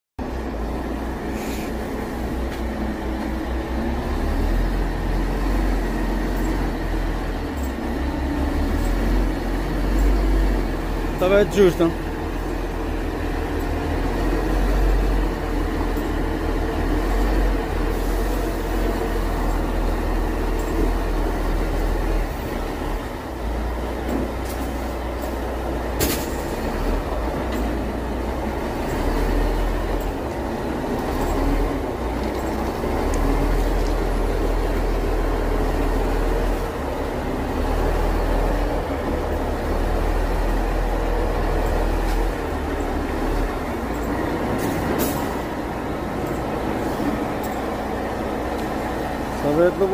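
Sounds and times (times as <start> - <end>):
crane machinery rumbling: 0.2 - 49.9.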